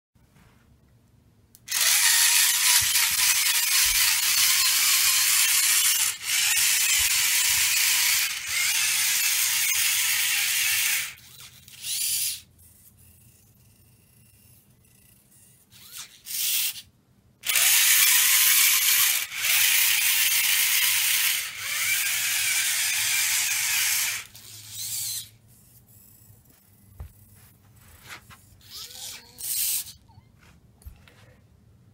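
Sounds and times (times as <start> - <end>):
servo motors whirring: 1.7 - 26.2, 28.6 - 30.0.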